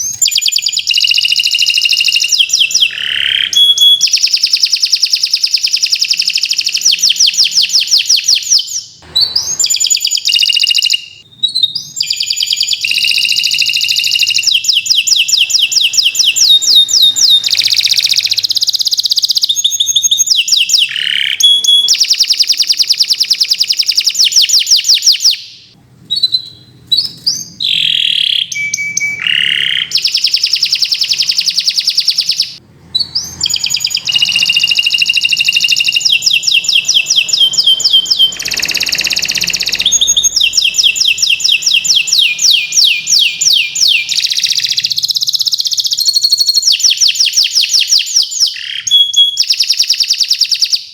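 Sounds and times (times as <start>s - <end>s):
canary singing rapid trills: 0.0s - 50.9s.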